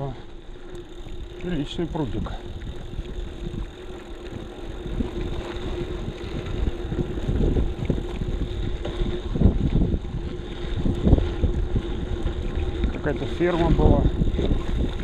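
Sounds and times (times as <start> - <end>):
steady hum: 0.0 - 15.0
wind buffeting microphone: 0.0 - 15.0.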